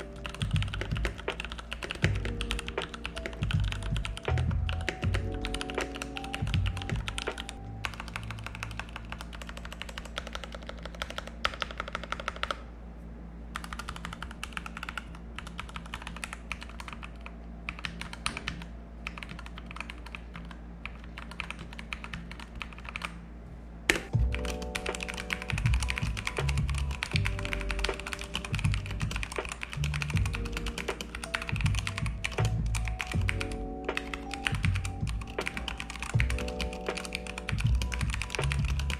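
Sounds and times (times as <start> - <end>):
mechanical keyboard typing: 0.0 - 12.6, 13.6 - 23.1, 23.9 - 38.9.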